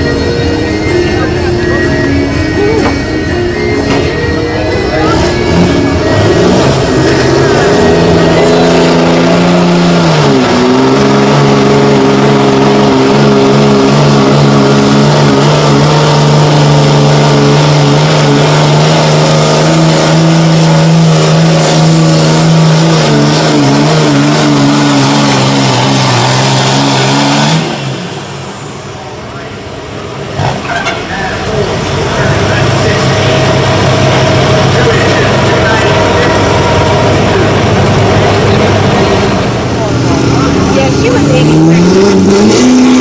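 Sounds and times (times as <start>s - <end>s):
truck engine running at high revs: 0.0s - 43.0s.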